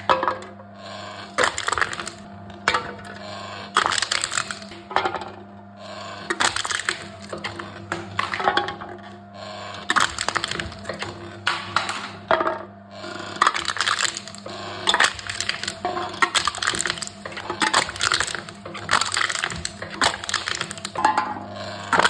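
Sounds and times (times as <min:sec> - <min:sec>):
machine crushing cans: 0:00.0 - 0:05.4, 0:06.2 - 0:22.0
steady low hum: 0:00.0 - 0:22.0.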